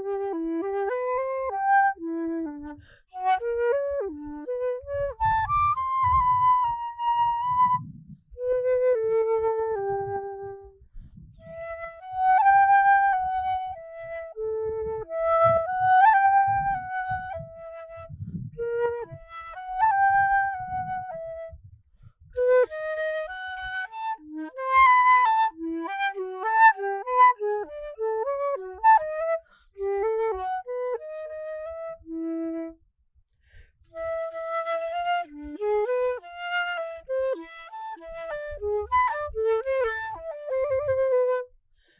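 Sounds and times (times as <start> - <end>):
solo flute melody: 0.0 - 32.8, 33.4 - 41.6.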